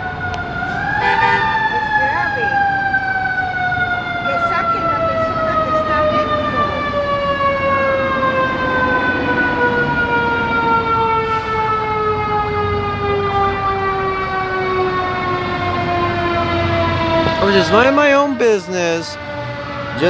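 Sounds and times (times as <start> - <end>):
siren winding down: 0.0 - 20.0
street noise: 0.0 - 20.0.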